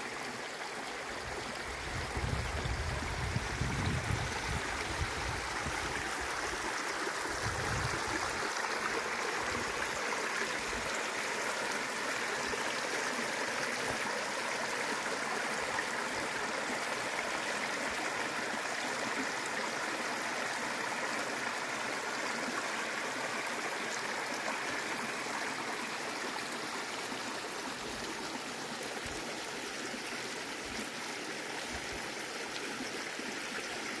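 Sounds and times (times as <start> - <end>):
brook running over rocks: 0.0 - 34.0.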